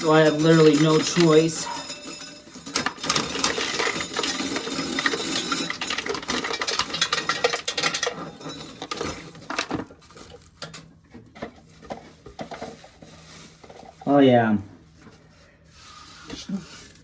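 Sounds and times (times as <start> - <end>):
corn kernels rattling into metal: 0.0 - 14.2.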